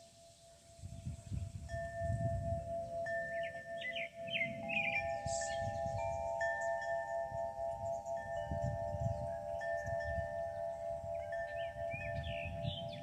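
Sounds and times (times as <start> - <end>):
wind chimes ringing: 0.0 - 13.0
wind rumbling on microphone: 0.6 - 13.0.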